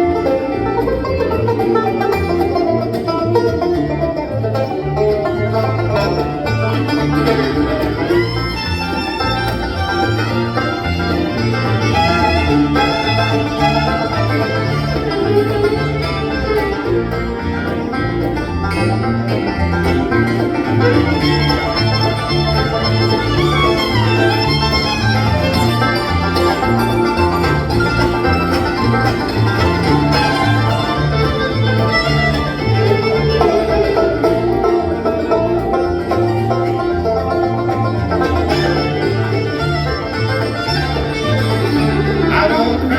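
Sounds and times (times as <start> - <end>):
banjo: 0.0 - 42.9
bass notes: 0.0 - 42.9
fiddle sliding in pitch: 0.0 - 42.9
guitar: 0.0 - 42.9.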